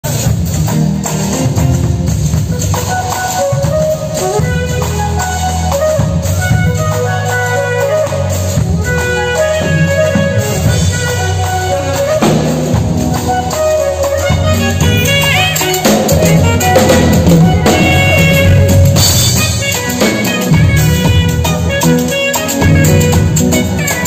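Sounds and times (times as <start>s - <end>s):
backing track bass line: 0.0s - 24.0s
light percussion: 0.1s - 24.0s
saxophone melody: 0.1s - 24.0s.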